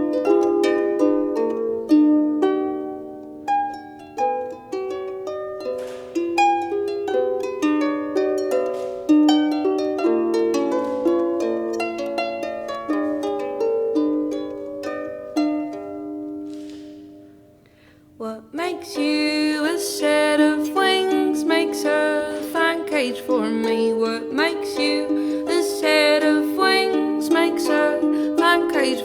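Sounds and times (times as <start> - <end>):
harp playing melody: 0.0 - 29.0.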